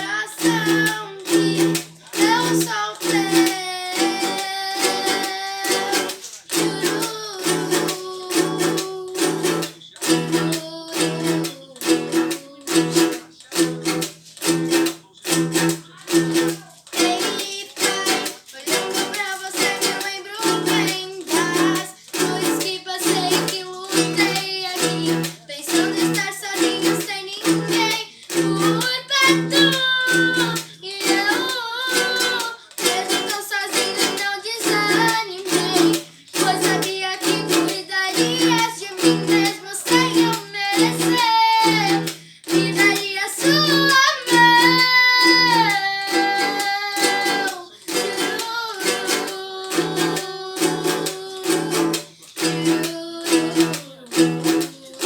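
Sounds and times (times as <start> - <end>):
girl singing: 0.0 - 55.0
strummed acoustic string instrument: 0.0 - 55.0.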